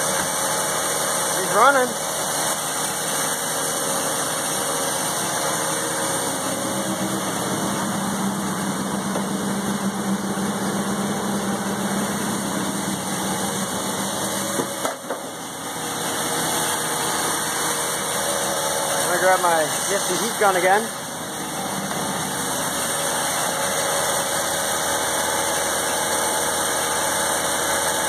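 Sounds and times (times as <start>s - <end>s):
rotary engine idling: 0.0s - 28.0s.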